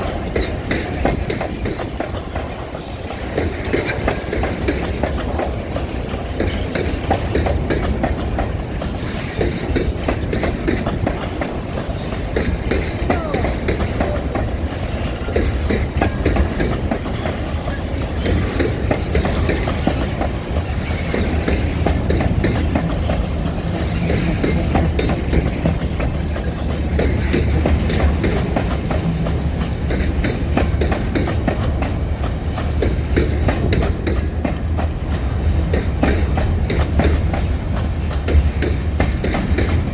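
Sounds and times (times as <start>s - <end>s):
low train rumble: 0.0s - 39.9s
train wheels clattering over rail joints: 0.0s - 39.9s.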